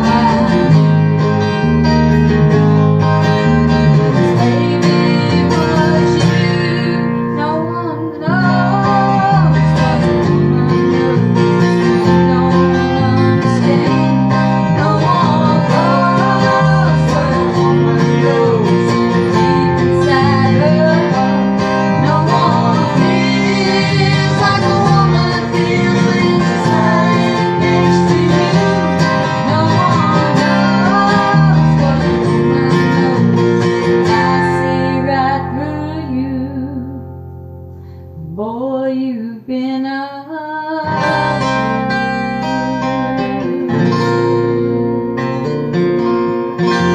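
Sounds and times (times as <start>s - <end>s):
strummed acoustic guitar: 0.0s - 38.4s, 40.8s - 46.9s.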